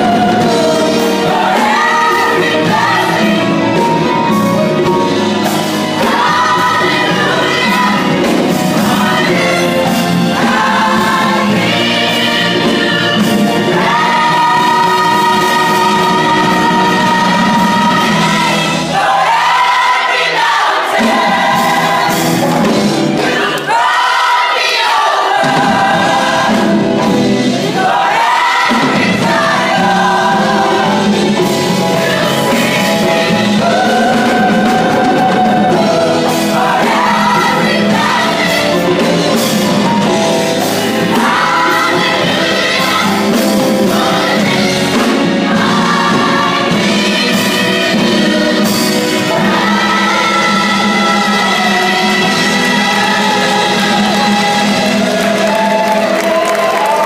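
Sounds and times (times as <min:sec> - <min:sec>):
gospel choir singing: 0:00.0 - 0:57.0.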